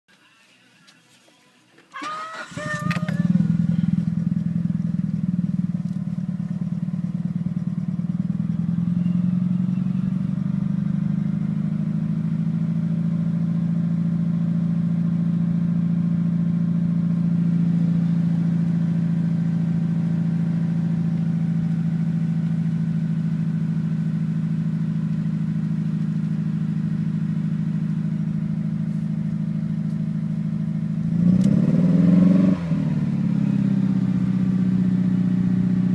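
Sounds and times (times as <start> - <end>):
car engine idling unevenly: 0.1 - 31.6, 32.4 - 35.9
car engine revving: 2.4 - 35.9.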